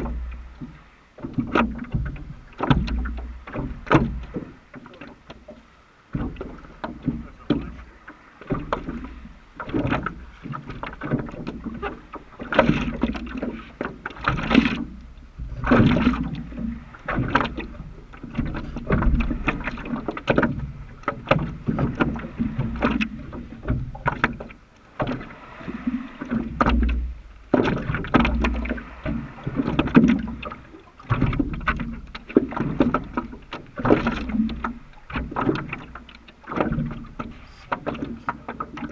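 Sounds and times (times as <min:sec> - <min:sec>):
wind rumble on microphone: 0:00.0 - 0:04.6, 0:06.1 - 0:35.9
water slapping against board: 0:00.0 - 0:38.9.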